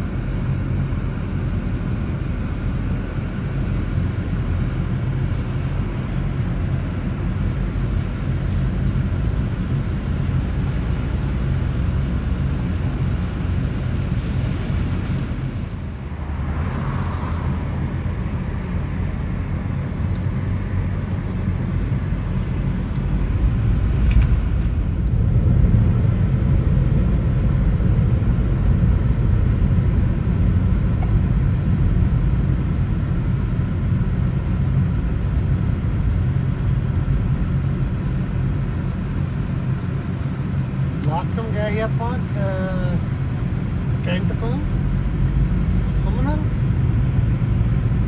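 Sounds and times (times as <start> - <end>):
car cabin road noise: 0.0 - 48.0.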